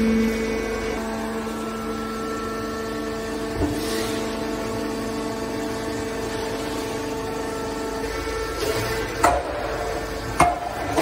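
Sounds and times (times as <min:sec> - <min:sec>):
hydraulic pump motor humming: 0:00.0 - 0:11.0.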